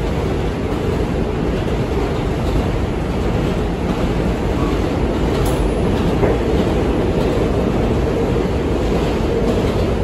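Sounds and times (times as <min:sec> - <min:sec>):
subway wheels rumbling on rails: 0:00.0 - 0:10.0.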